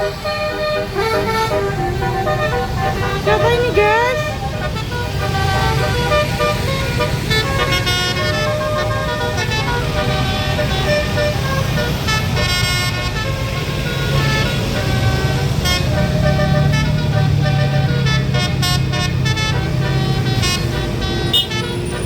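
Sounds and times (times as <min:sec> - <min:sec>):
bus engine running: 0:00.0 - 0:22.0
musical bus horn melody: 0:00.0 - 0:22.0.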